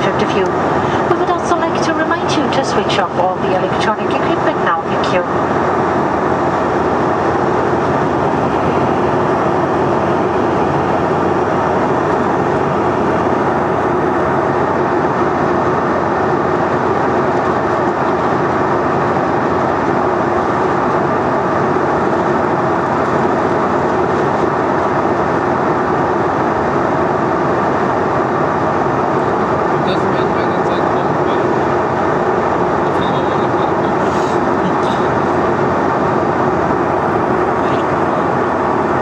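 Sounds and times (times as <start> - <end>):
jet engine hum: 0.0 - 39.0.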